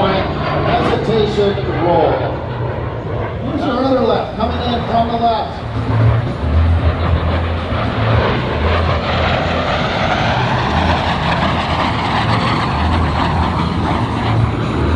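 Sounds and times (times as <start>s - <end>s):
jet aircraft passing overhead: 0.0s - 14.9s.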